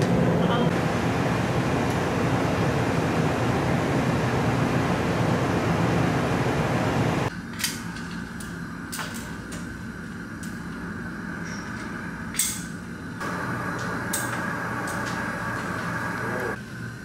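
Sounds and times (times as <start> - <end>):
fan humming: 0.0 - 17.0
ship machinery hum: 0.0 - 17.0.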